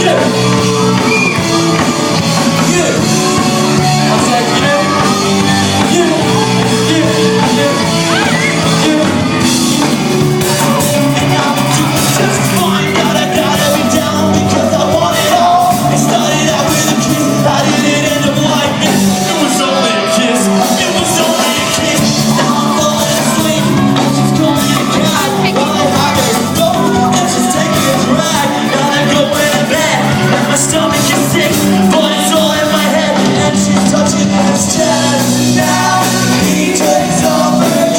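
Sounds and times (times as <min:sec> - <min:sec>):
lead voice singing: 0:00.0 - 0:37.9
rock band playing live: 0:00.0 - 0:37.9.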